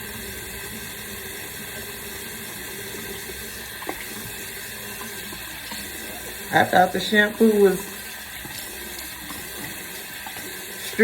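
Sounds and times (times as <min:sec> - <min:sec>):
water running from faucet: 0:00.0 - 0:11.0.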